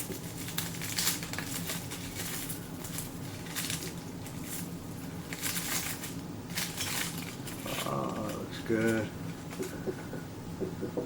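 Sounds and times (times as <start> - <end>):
plastic wrap crinkling: 0.0 - 9.8
low room hum: 0.0 - 11.0.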